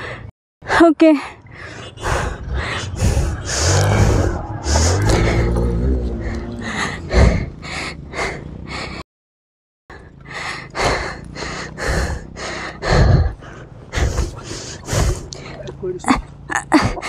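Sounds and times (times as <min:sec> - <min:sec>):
person panting hard: 0:00.0 - 0:09.0, 0:09.9 - 0:15.8.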